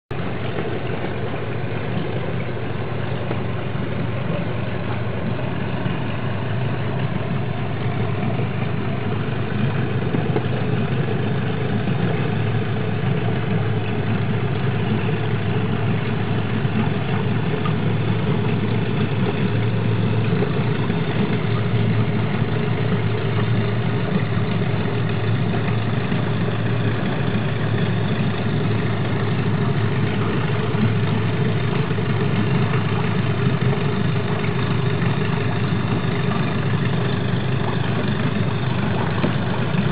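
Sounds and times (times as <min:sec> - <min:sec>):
engine idling drone: 0:00.0 - 0:39.9.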